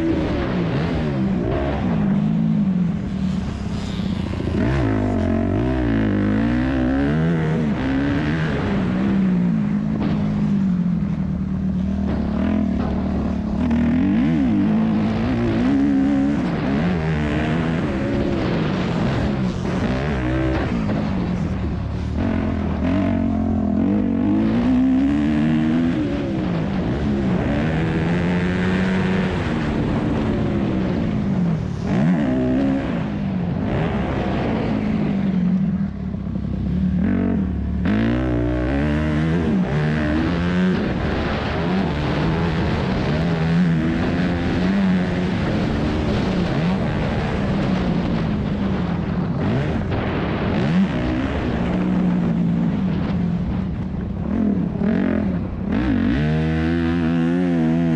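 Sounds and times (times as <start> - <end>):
motorcycle engine revving hard: 0.0 - 57.9.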